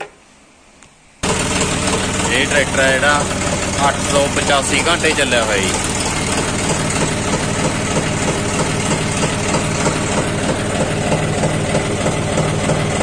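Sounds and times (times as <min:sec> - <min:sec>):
tractor diesel engine idling: 0:01.2 - 0:13.0.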